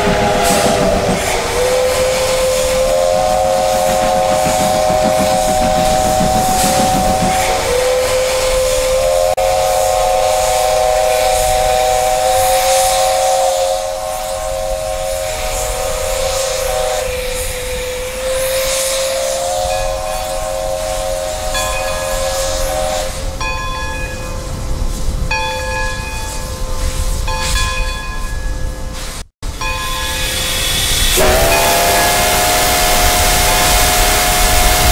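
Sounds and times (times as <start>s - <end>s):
hiss of steam: 0.0s - 23.4s, 29.0s - 34.9s
steam locomotive whistle: 0.0s - 23.6s, 29.1s - 34.9s.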